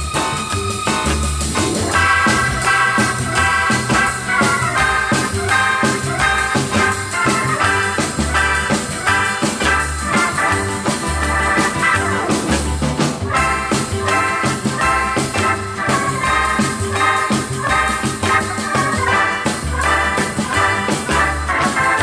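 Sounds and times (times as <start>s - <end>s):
bass notes: 0.0s - 22.0s
drums with steady beat: 0.0s - 22.0s
keyboard melody: 0.0s - 22.0s.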